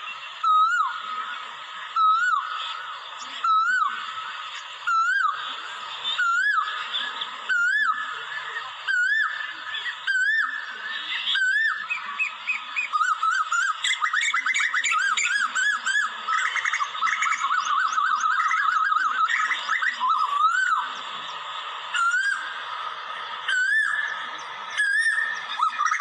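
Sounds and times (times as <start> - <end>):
bird whistled calls: 0.0 - 2.8, 3.4 - 21.0, 21.9 - 22.6, 23.4 - 26.0.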